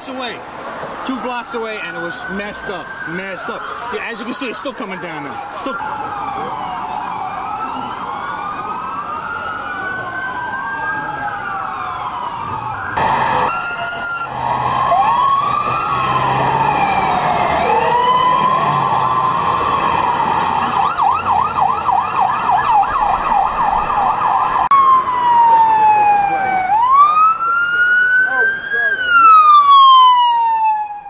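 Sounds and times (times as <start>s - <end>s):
emergency sirens wailing: 0.0s - 31.0s
siren yelping: 0.8s - 31.0s.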